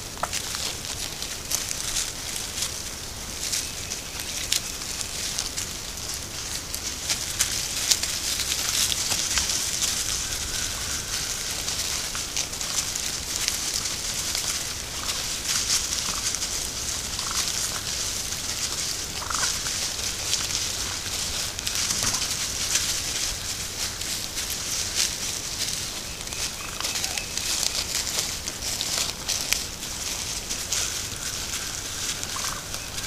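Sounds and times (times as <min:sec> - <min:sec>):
feet crackling in dry leaves: 0:00.0 - 0:33.0
steady hiss: 0:00.0 - 0:33.0
wild turkeys calling: 0:00.0 - 0:33.0.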